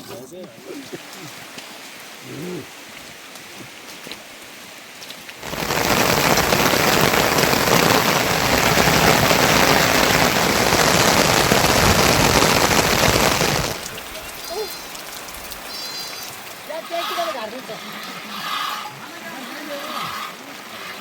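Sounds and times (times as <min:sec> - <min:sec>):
heavy rain pouring: 0:00.6 - 0:21.0.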